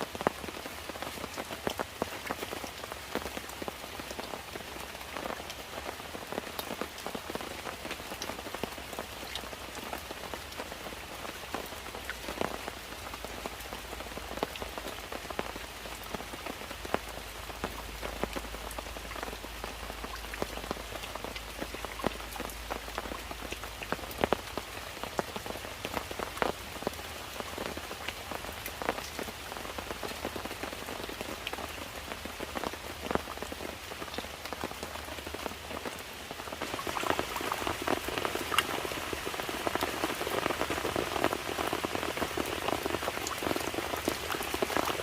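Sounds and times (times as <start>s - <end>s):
rain patter: 0.0s - 45.0s
raindrops striking a surface: 0.0s - 45.0s.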